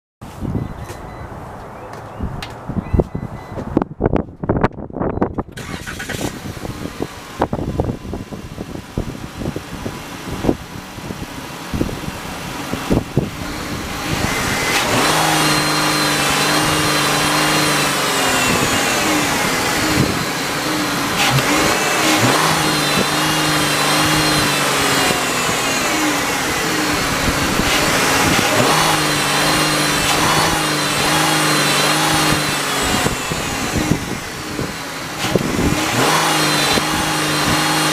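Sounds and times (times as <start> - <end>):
van engine starting and revving: 5.3 - 37.9.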